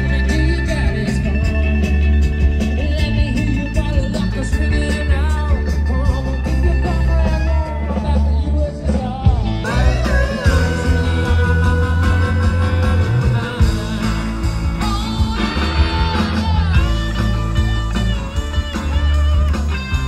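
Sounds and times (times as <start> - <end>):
rock music with singer: 0.0 - 20.0.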